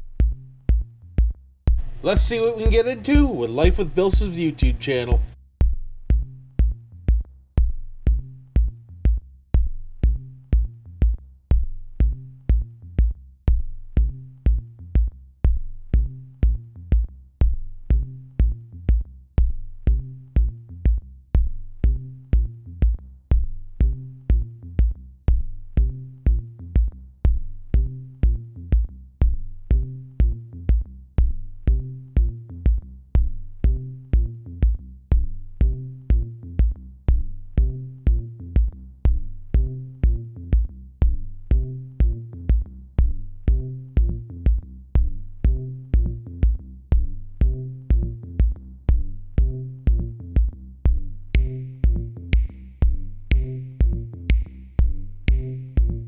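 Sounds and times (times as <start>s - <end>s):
electronic music with drum beat: 0.0s - 56.0s.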